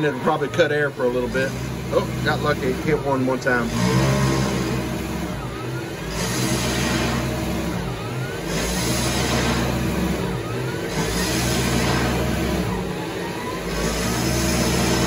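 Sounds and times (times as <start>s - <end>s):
lathe cutting steel: 0.1s - 15.0s.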